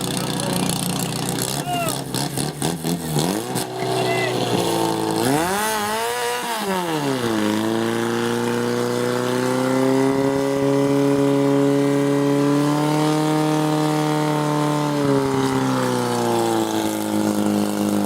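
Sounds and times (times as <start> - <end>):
engine running at high revs: 0.0 - 18.0.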